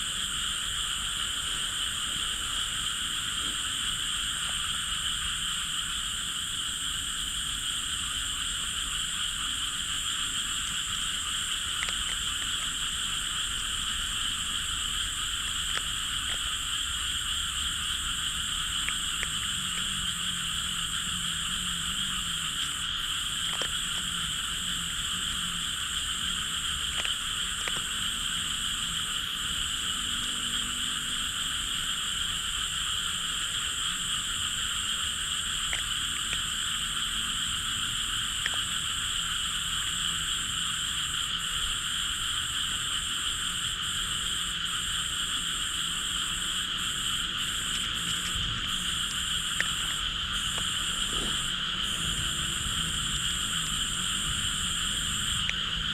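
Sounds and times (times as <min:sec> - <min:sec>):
frogs calling: 0:00.0 - 0:55.9.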